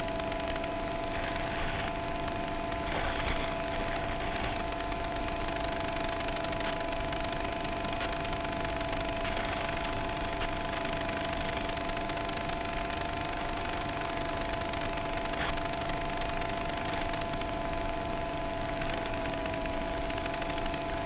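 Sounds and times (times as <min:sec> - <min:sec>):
electrical hum and whine: 0:00.0 - 0:21.0.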